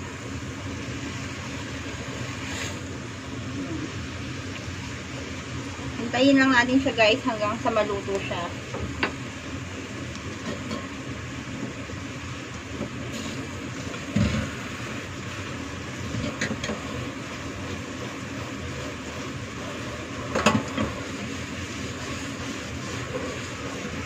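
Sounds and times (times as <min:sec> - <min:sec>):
pot simmering and bubbling: 0:00.0 - 0:24.0.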